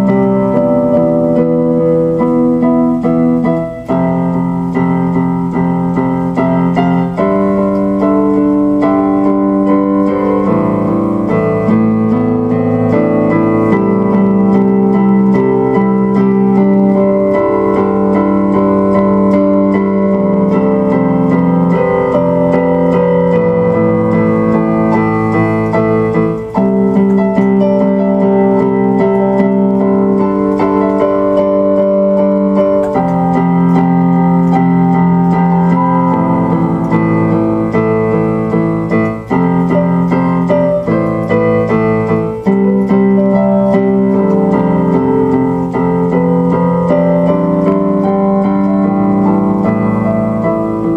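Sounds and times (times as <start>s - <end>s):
slow keyboard chords: 0.0s - 50.9s.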